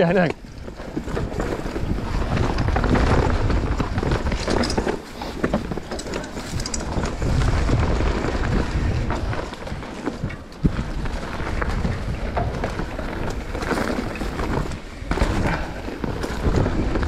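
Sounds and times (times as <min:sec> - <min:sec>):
bike rattling over bumps: 0:00.0 - 0:17.0
tyres rolling on dirt: 0:00.0 - 0:17.0
wind buffeting microphone: 0:00.0 - 0:17.0.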